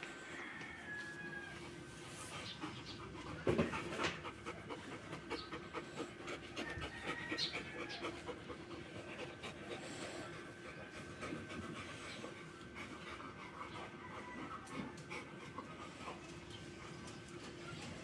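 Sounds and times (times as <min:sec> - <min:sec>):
dog panting: 0:01.6 - 0:18.0.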